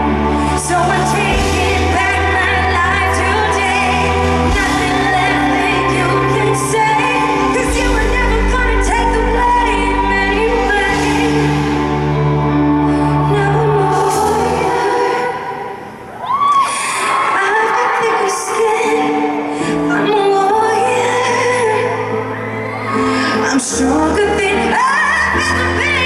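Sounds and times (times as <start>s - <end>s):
woman singing a pop ballad: 0.0s - 15.8s, 16.6s - 26.0s.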